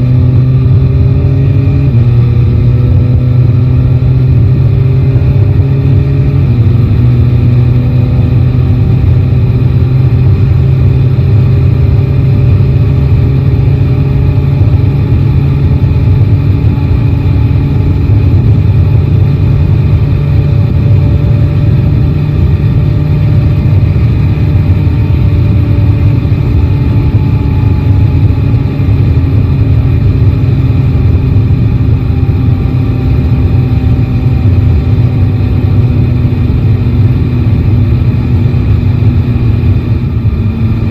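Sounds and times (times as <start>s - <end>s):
motorcycle engine cruising: 0.0s - 40.9s
wind and road rush: 0.0s - 40.9s.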